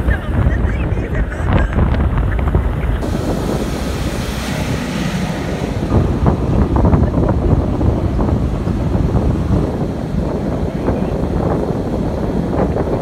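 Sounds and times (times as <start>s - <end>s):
moving vehicle running noise: 0.0s - 13.0s
wind buffeting microphone: 0.0s - 13.0s.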